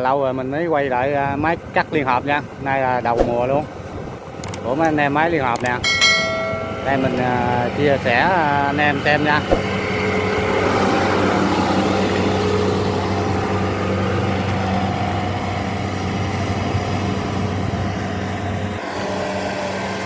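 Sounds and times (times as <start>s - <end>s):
combine harvester engine humming: 0.0s - 20.0s.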